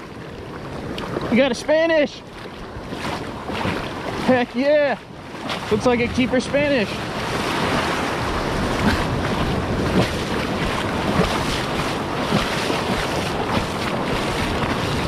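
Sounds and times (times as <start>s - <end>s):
surf breaking in shallows: 0.0s - 15.0s
wind buffeting microphone: 0.0s - 15.0s.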